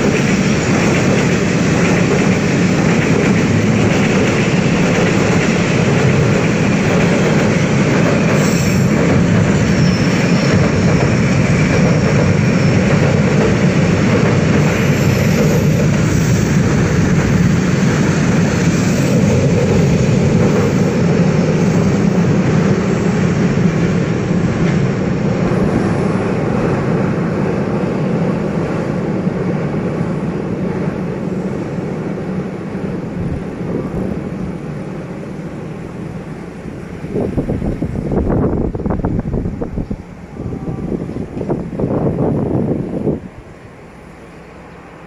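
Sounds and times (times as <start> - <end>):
train rumbling over rails: 0.0 - 45.0.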